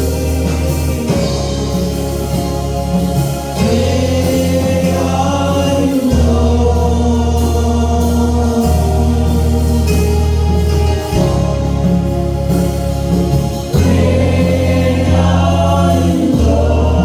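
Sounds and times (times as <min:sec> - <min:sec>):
gospel choir singing a hymn: 0:00.0 - 0:17.0
instrumental accompaniment with bass: 0:00.0 - 0:17.0.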